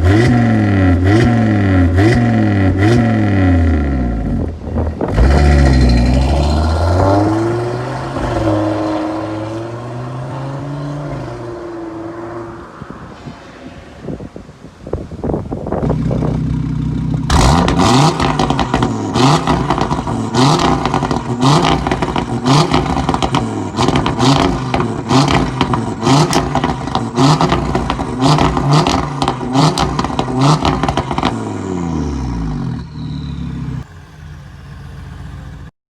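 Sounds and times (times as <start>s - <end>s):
exhaust cracks: 0.0s - 9.6s, 15.3s - 35.4s
car engine idling and revving: 0.0s - 13.3s, 15.3s - 35.7s.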